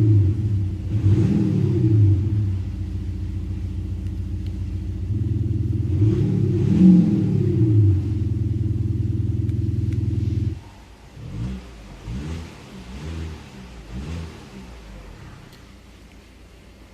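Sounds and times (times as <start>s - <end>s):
simulated exhaust revving: 0.0s - 16.0s.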